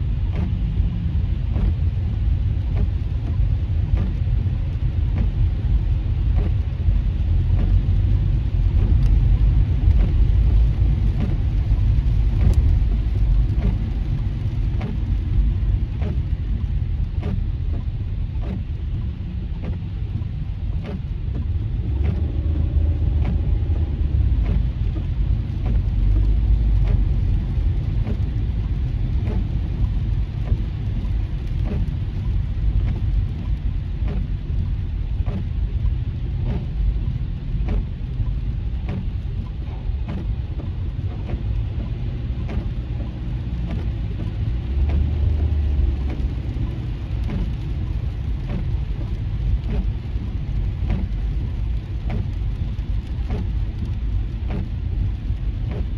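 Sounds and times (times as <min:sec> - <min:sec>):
raindrops tapping windshield: 0:00.0 - 0:55.9
tyres rumbling on wet road: 0:00.0 - 0:55.9.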